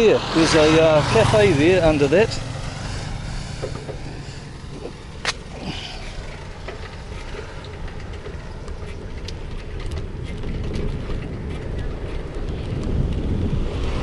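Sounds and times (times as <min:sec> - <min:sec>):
motorbike riding rumble: 0:00.0 - 0:14.0
wind noise on microphone: 0:00.0 - 0:14.0.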